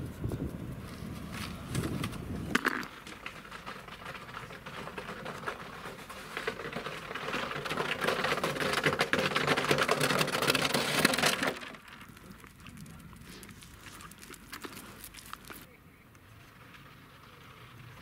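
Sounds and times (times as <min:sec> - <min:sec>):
plastic sled scraping on asphalt: 0:00.1 - 0:18.0.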